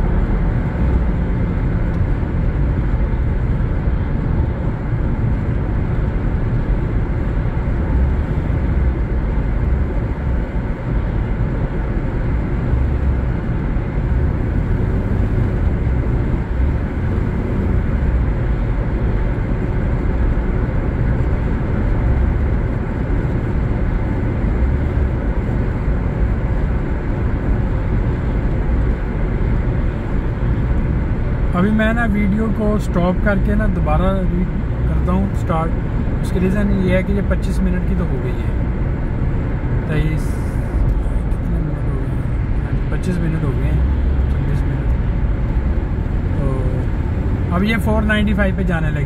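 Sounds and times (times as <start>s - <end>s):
car road and engine noise: 0.0s - 49.0s.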